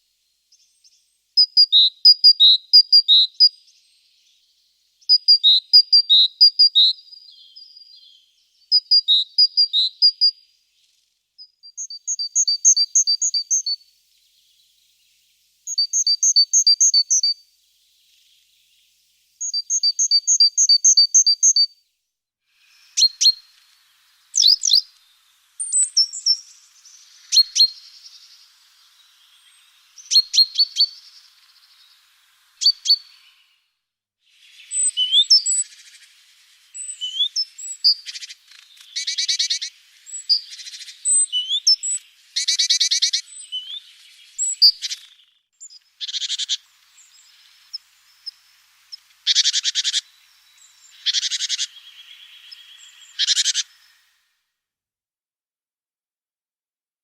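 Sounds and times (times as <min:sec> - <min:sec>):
small songbirds calling and singing: 0:00.0 - 0:54.4.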